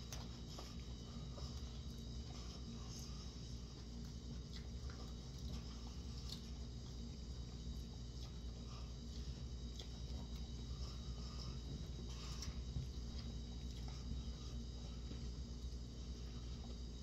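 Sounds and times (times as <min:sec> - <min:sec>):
chewing: 0:00.0 - 0:17.0
steady low hum: 0:00.0 - 0:17.0.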